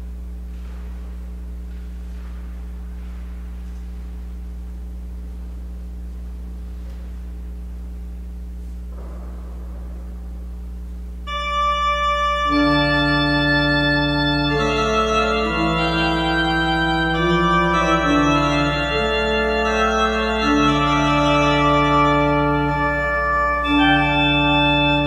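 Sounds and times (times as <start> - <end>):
church organ chords: 0.0 - 25.0
low electrical hum: 0.0 - 25.0.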